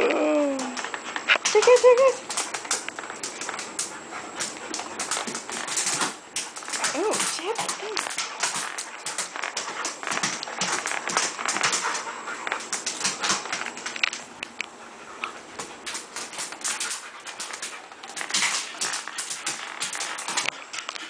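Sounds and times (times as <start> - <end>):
dog claws scrabbling on tile: 0.6 - 21.0.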